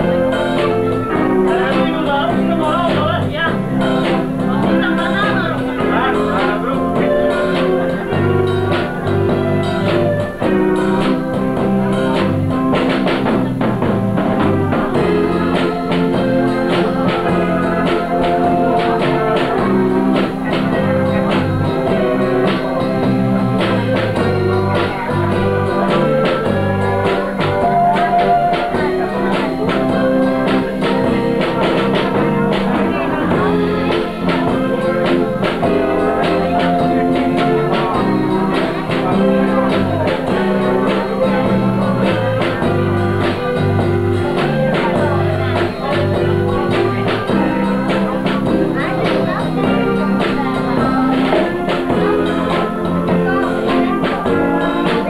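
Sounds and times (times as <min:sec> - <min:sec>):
bass line: 0:00.0 - 0:55.0
drum kit playing: 0:00.0 - 0:55.0
electric guitars: 0:00.0 - 0:55.0.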